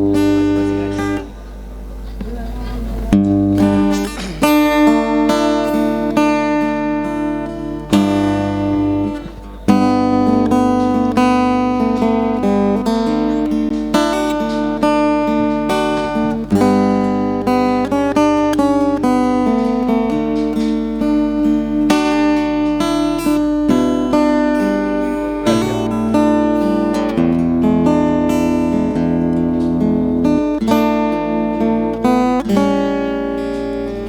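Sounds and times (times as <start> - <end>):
acoustic guitar strumming chords: 0.0 - 34.0.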